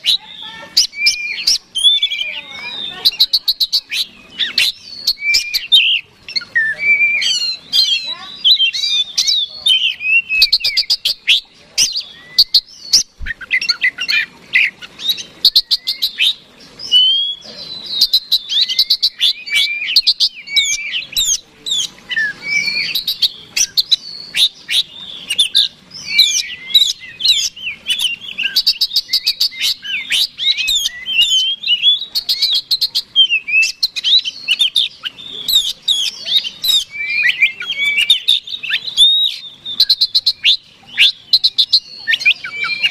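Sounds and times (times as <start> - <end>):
songbird whistling and chattering: 0.0 - 42.9.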